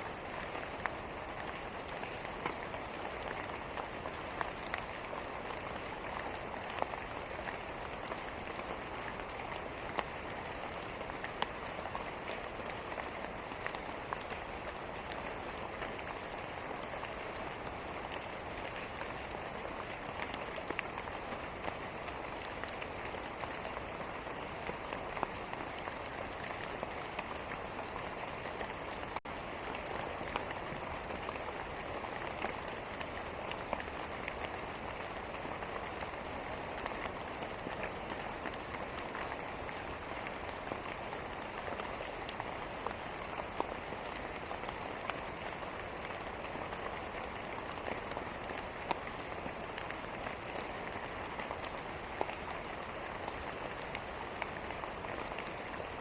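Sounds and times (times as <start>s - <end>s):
steady rain hiss: 0.0s - 56.0s
sharp raindrop ticks: 0.1s - 56.0s.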